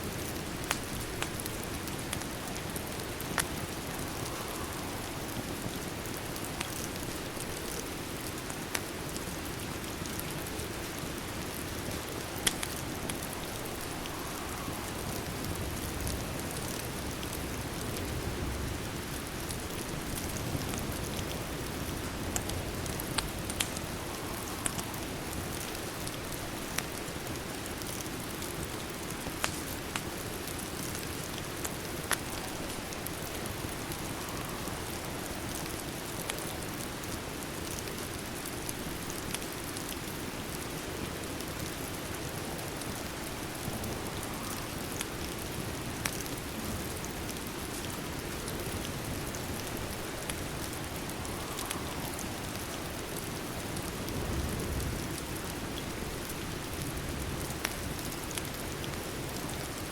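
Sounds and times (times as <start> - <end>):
crackling wood fire: 0.0 - 59.9
steady rain hiss: 0.0 - 59.9.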